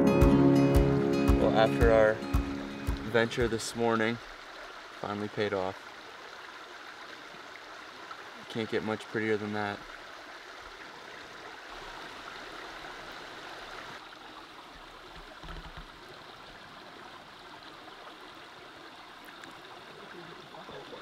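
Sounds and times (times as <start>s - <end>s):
stream flowing over rocks: 0.0s - 21.0s.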